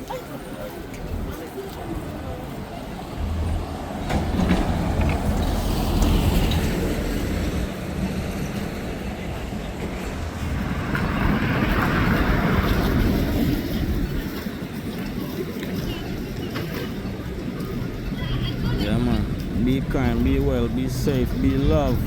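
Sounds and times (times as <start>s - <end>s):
heavy vehicle rumble: 0.0s - 22.0s.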